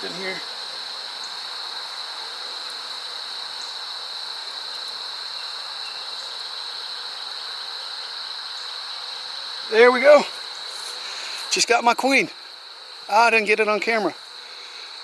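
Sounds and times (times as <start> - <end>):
faint hiss: 0.0 - 15.0
insect chorus trilling: 0.0 - 15.0.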